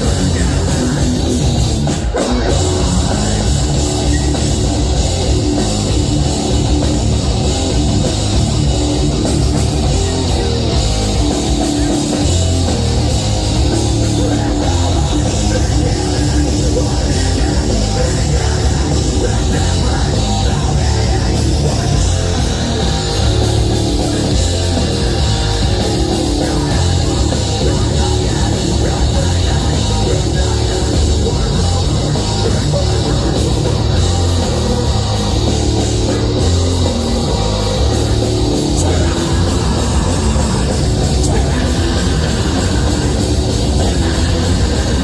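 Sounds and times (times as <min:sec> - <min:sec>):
heavy metal band playing: 0:00.0 - 0:45.0.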